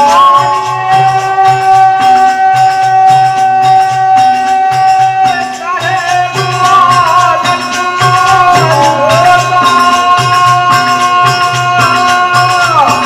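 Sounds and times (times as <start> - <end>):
hand drums beat: 0.0 - 13.0
harmonium: 0.0 - 13.0
person singing: 0.0 - 13.0
small hand cymbals clashing: 0.0 - 13.0.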